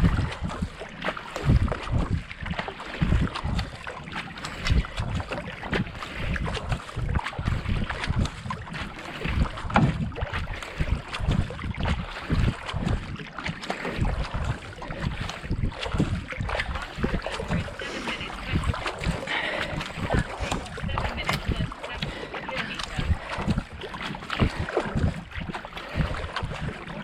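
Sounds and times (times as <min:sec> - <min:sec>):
paddle blades splashing: 0:00.0 - 0:27.0
water rushing past hull: 0:00.0 - 0:27.0
wind buffeting microphone: 0:00.0 - 0:27.0.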